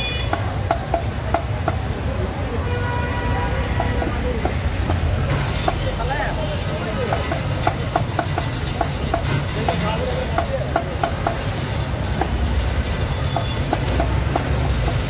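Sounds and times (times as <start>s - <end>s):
faint voices: 0.0s - 14.7s
low traffic rumble: 0.0s - 15.0s.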